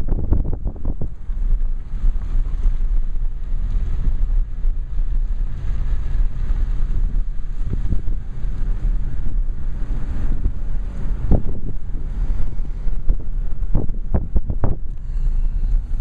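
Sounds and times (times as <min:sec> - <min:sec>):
car engine and tyres rumbling: 0:00.0 - 0:16.0
wind buffeting microphone: 0:00.0 - 0:16.0.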